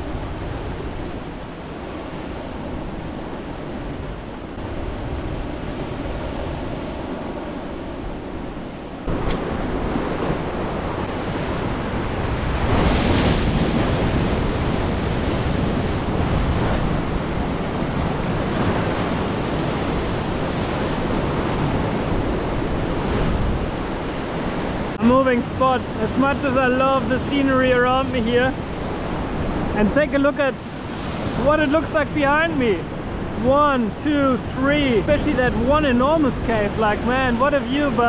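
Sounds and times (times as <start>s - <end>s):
ocean surf breaking on rocks: 0.0s - 38.0s
wind on microphone: 0.0s - 38.0s.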